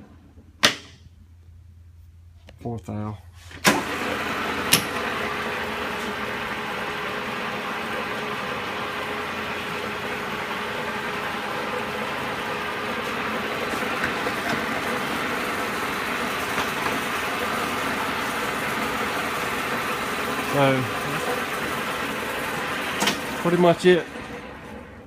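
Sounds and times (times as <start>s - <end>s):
drill press motor humming: 3.7s - 25.0s.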